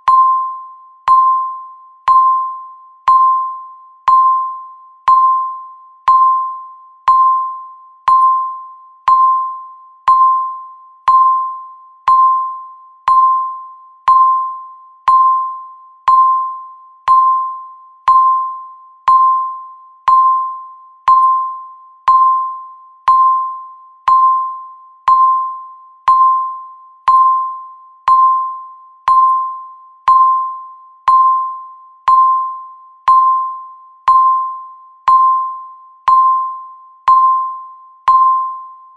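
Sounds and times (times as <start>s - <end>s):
timer electronic beep: 0.0s - 38.9s.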